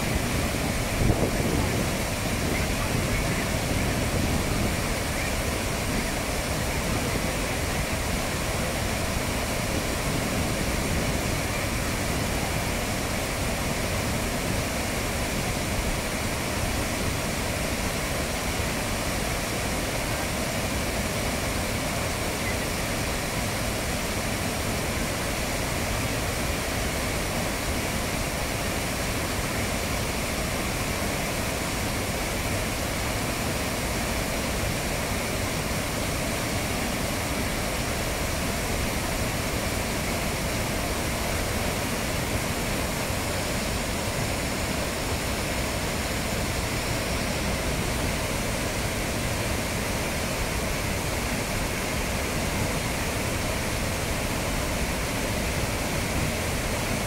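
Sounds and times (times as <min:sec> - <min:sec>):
waterfall crashing into pool: 0:00.0 - 0:57.0.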